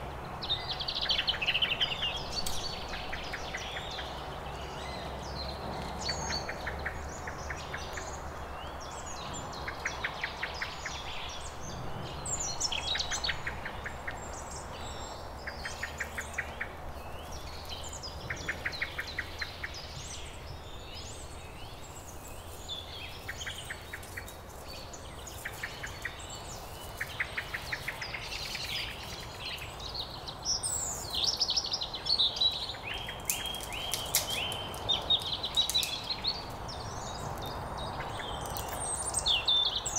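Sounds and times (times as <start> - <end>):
songbirds chirping and whistling: 0.0 - 39.9.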